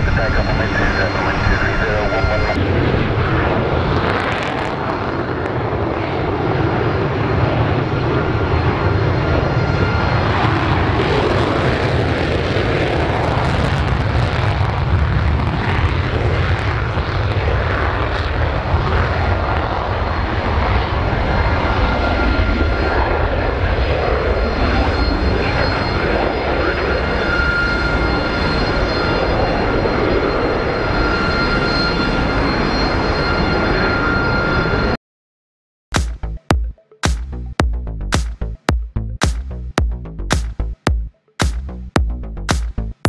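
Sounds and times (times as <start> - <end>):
jet engines roaring: 0.0 - 35.0
thin jet engine whine: 0.0 - 35.0.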